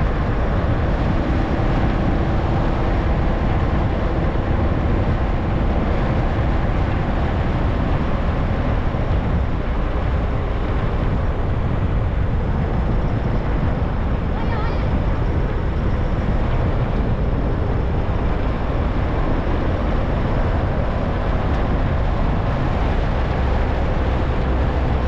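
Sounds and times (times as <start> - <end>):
car tyre and wind noise: 0.0 - 25.0.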